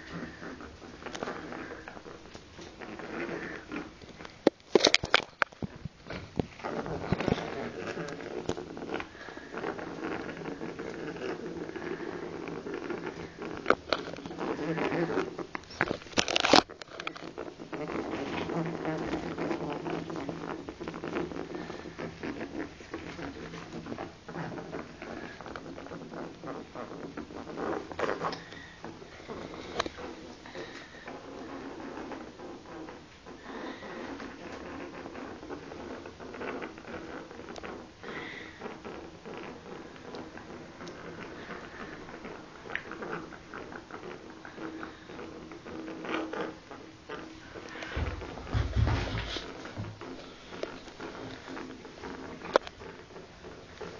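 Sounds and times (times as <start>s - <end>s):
rats tapping and scrabbling: 0.0s - 53.9s.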